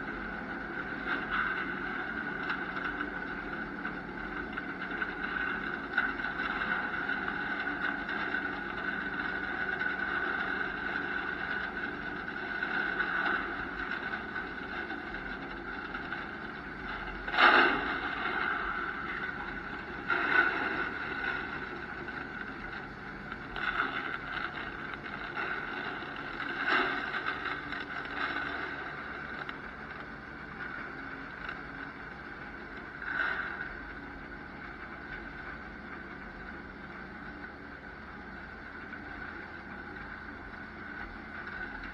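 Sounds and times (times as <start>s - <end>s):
tractor engine droning: 0.0s - 41.9s.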